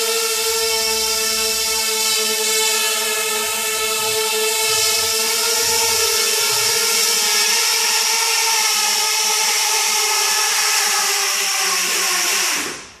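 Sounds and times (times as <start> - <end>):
quadcopter motors whining: 0.0 - 12.9.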